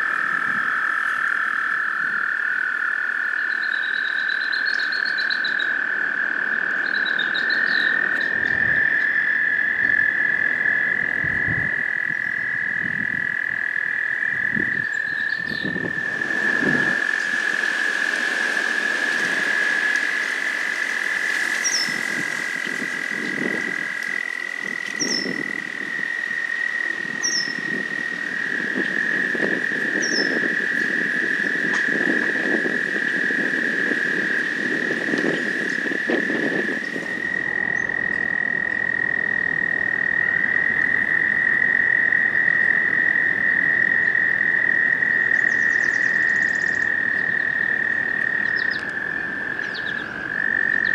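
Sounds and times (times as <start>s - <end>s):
toads trilling: 0.0s - 50.9s.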